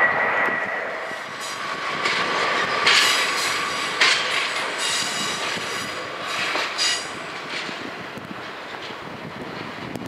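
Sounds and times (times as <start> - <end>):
loud rail clacks: 0.0 - 10.0
train wheels on rails: 0.0 - 10.0.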